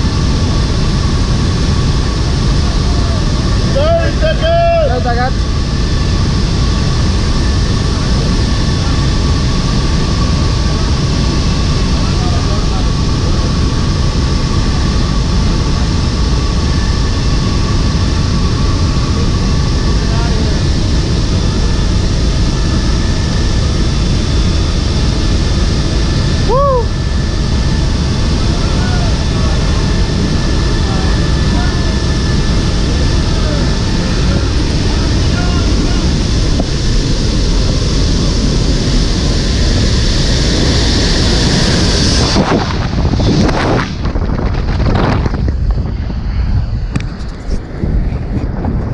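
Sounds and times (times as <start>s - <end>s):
aircraft engine noise: 0.0s - 48.9s
rushing air in cabin: 0.0s - 48.9s
wind buffeting microphone: 0.0s - 48.9s.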